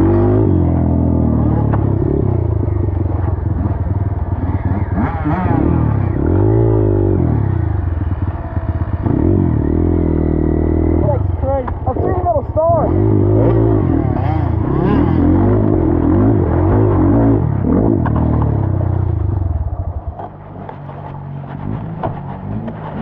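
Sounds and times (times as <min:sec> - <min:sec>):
small dirt bike engine revving: 0:00.0 - 0:19.6.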